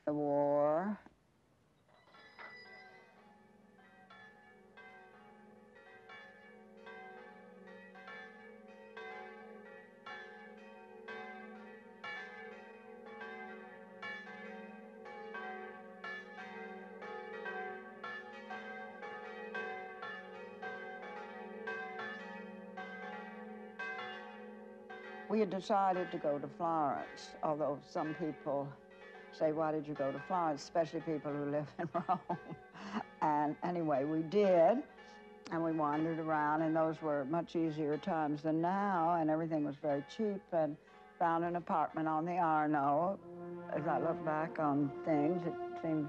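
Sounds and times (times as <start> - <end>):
church bells pealing: 2.1 - 46.0.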